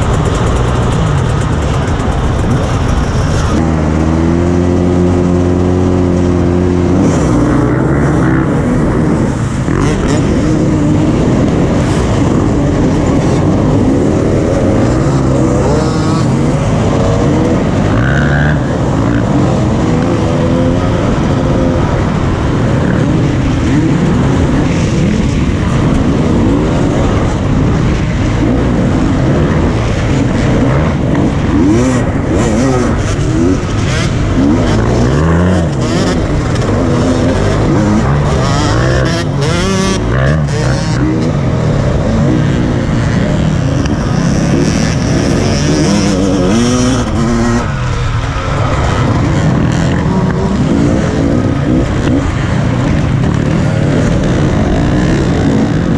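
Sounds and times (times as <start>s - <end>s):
dirt bikes revving: 0.0s - 55.9s
engine held at high rev: 0.0s - 55.9s.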